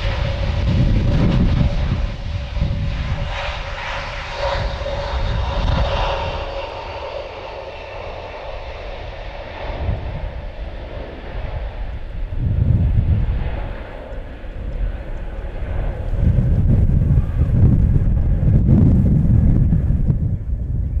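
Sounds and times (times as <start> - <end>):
gusty wind on microphone: 0.0 - 21.0
jet engines whining: 0.0 - 21.0.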